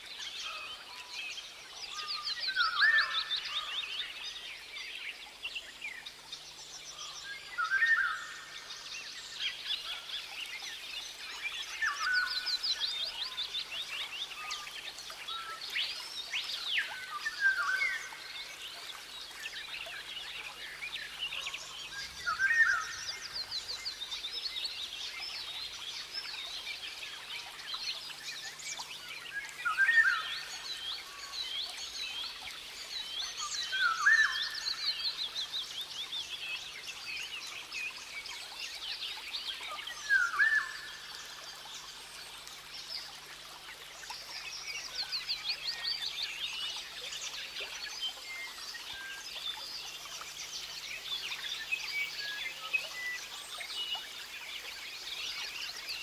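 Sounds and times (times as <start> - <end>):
forest birds chirping and trilling: 0.0 - 56.0.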